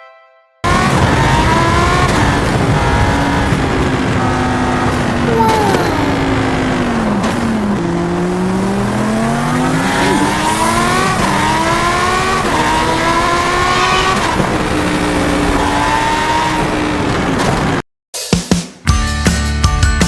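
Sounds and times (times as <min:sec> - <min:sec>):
vehicle engine revving: 0:00.6 - 0:17.8.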